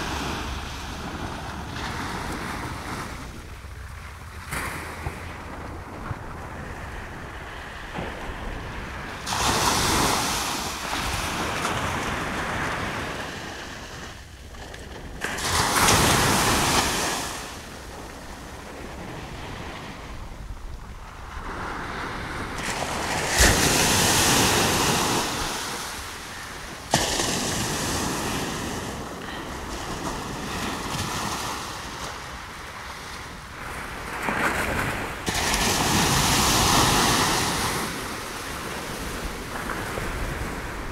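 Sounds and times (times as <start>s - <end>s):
sea waves crashing on beach: 0.0s - 40.9s.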